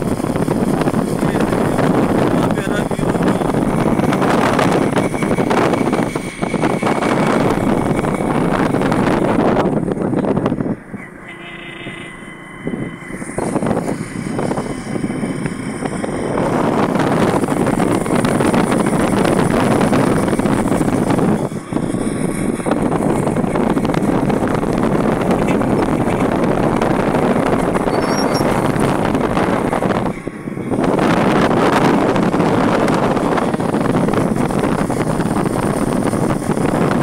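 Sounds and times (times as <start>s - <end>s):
wind buffeting microphone: 0.0s - 11.3s, 12.1s - 37.0s
vehicle engine running: 0.0s - 37.0s.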